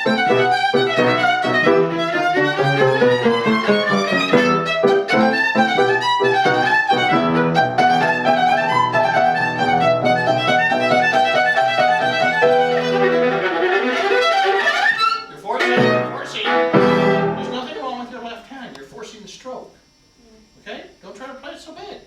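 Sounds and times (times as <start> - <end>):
bowed viola melody: 0.0 - 18.0.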